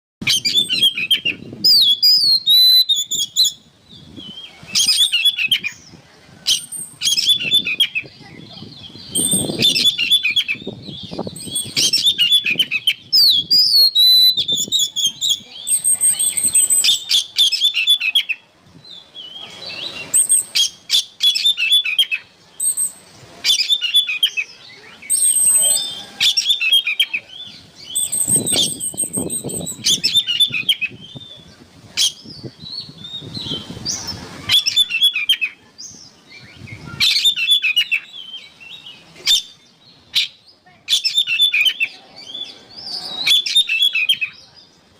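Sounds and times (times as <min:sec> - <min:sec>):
songbird singing: 0:00.2 - 0:44.9.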